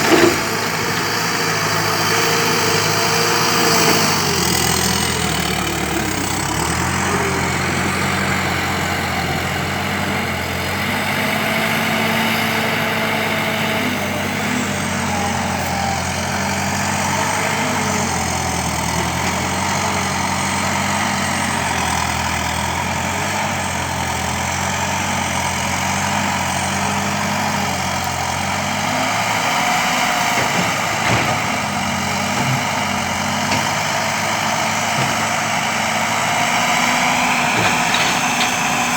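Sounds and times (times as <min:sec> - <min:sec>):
loader engine running: 0:00.0 - 0:38.9.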